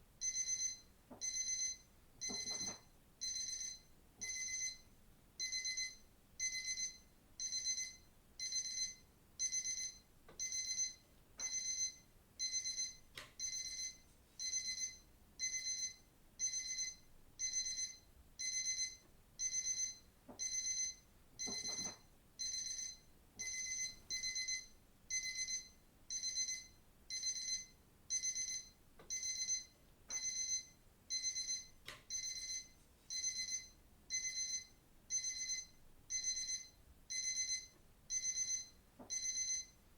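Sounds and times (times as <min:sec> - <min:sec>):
digital watch alarm beeping: 0:00.2 - 0:04.8, 0:05.4 - 0:39.8.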